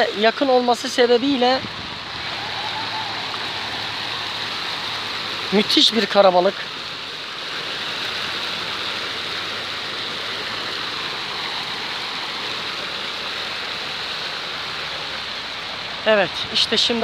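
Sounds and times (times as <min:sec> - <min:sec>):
fountain jets splashing: 0:00.0 - 0:17.0.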